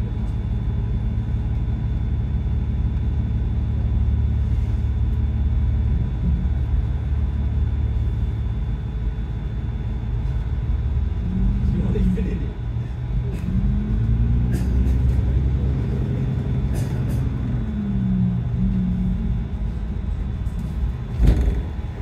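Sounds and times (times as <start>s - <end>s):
bus engine and road noise: 0.0s - 22.0s.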